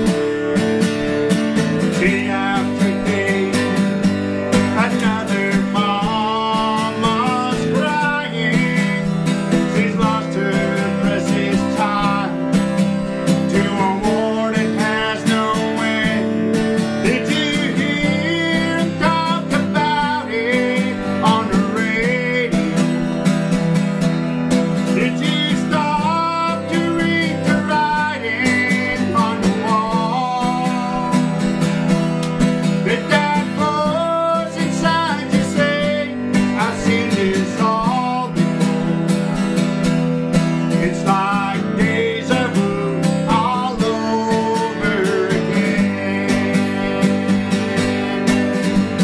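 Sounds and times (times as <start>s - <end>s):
man singing: 0.0s - 23.6s, 24.4s - 49.0s
strummed acoustic guitar: 0.0s - 49.0s.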